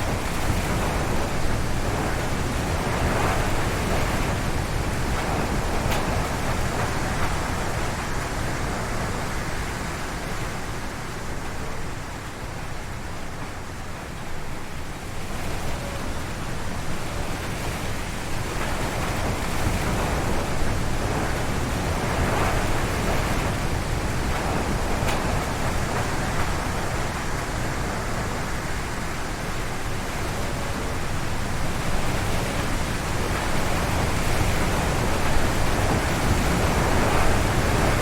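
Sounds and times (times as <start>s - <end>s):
strong wind through trees: 0.0s - 38.0s.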